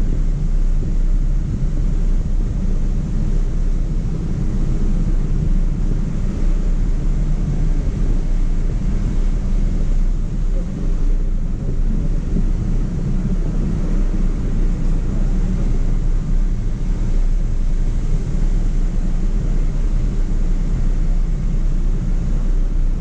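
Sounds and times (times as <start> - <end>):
truck engine rumbling: 0.0 - 23.0
wind on microphone: 0.0 - 23.0.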